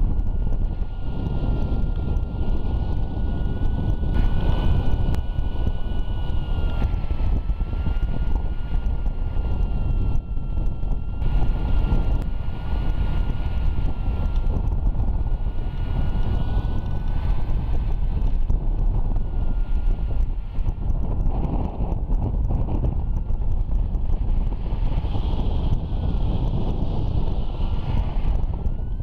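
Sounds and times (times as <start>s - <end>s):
steady high wavering tone: 0.0s - 29.0s
wind rushing over microphone: 0.0s - 29.0s.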